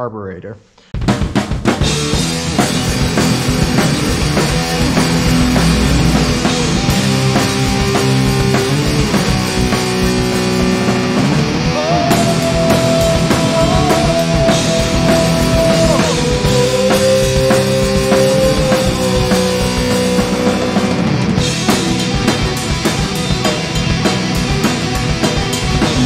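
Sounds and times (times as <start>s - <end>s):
rock music with bending guitar: 1.0s - 26.0s.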